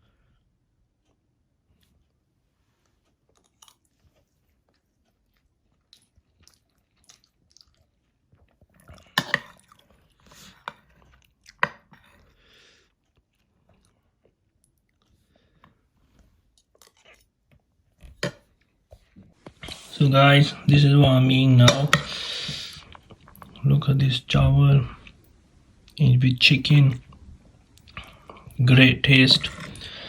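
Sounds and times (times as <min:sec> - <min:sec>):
soft chewing: 0:00.0 - 0:30.0.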